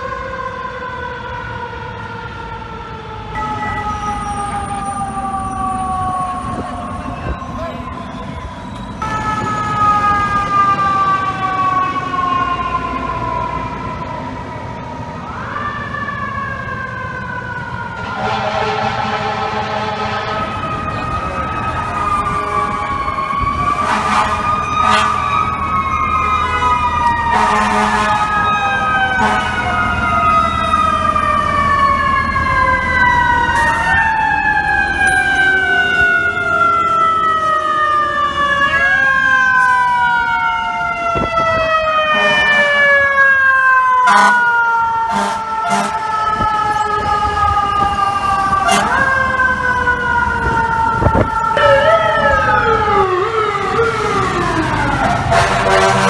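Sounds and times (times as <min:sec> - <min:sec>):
fire truck siren wailing: 0:00.0 - 0:56.0.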